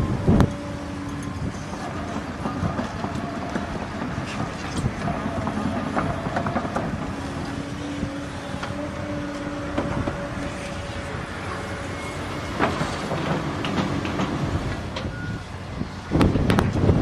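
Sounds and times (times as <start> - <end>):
diesel machinery humming: 0.0 - 17.0.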